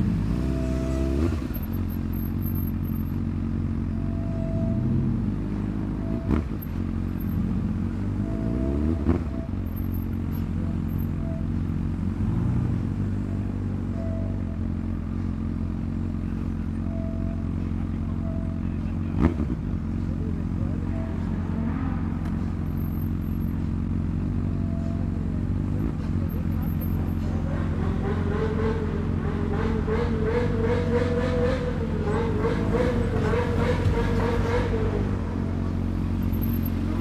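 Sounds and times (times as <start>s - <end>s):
motorcycle engine running at low revs: 0.0s - 37.0s.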